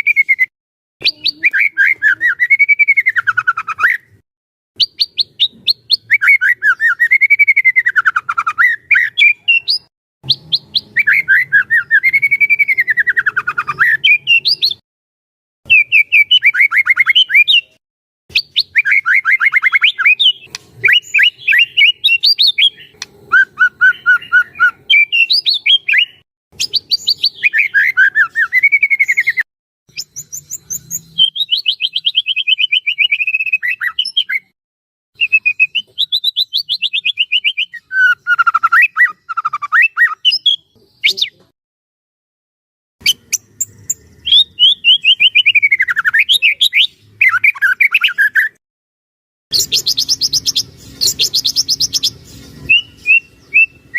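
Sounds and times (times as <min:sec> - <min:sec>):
bird singing: 0:00.0 - 0:04.2, 0:04.8 - 0:14.8, 0:15.7 - 0:34.5, 0:35.2 - 0:41.5, 0:43.0 - 0:48.6, 0:49.5 - 0:53.9.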